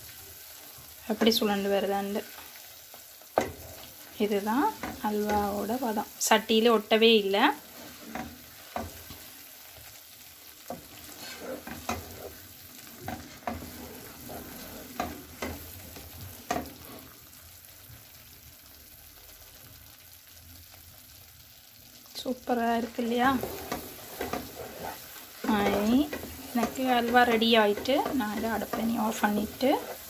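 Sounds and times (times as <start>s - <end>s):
low sizzle: 0.0s - 30.0s
wooden spoon scraping a pan: 0.5s - 17.4s, 22.7s - 30.0s.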